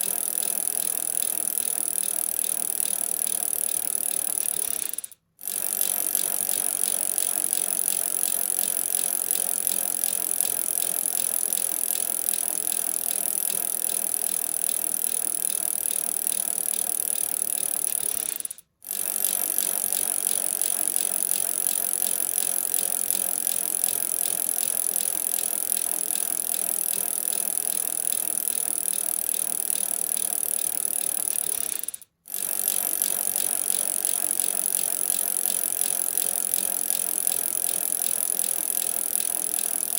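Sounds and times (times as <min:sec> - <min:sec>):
bicycle chain rattling: 0:00.0 - 0:39.9.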